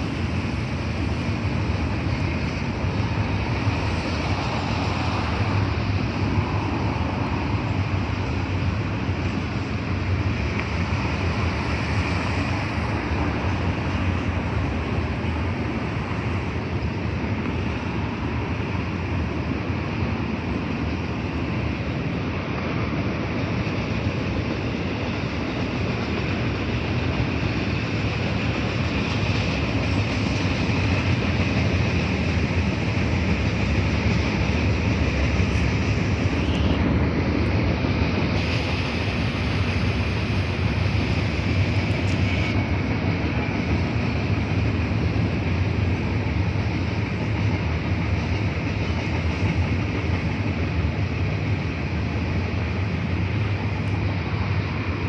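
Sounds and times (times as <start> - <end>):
high hiss: 0.0 - 55.0
train wheels rumbling on rails: 0.0 - 55.0.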